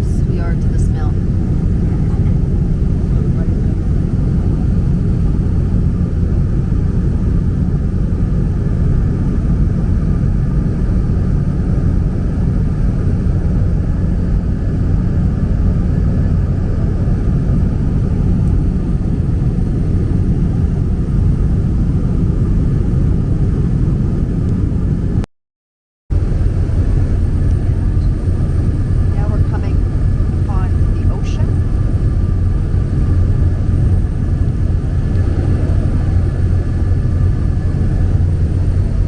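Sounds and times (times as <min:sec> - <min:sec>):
propeller plane engine drone: 0:00.0 - 0:25.2, 0:26.1 - 0:39.0.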